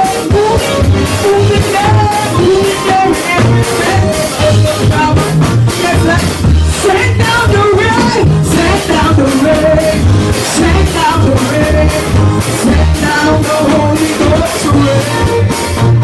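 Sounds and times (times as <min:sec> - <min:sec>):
heavy bass and drum beat: 0:00.0 - 0:16.0
person singing: 0:00.0 - 0:16.0.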